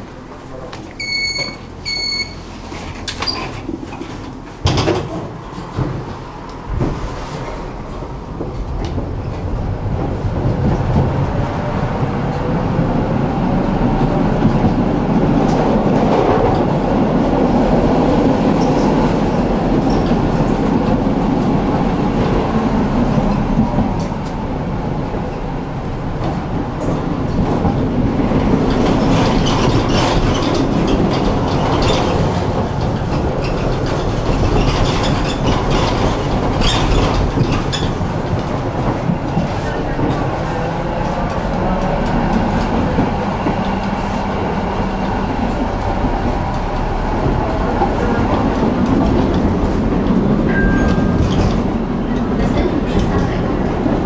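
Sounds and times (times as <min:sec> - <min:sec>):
tram wheels rumbling on rails: 0:00.0 - 0:54.0
track clicking and knocking: 0:02.8 - 0:54.0.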